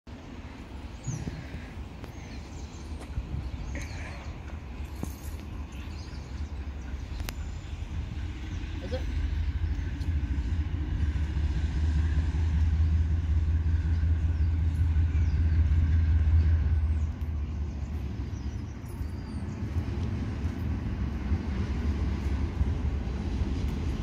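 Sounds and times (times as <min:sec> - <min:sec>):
locomotive engine droning: 0:00.1 - 0:24.0.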